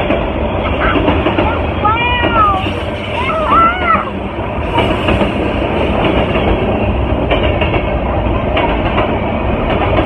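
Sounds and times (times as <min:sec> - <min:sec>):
clacks at rail joints: 0:00.0 - 0:04.0, 0:04.6 - 0:10.0
freight train rumbling past: 0:00.0 - 0:10.0.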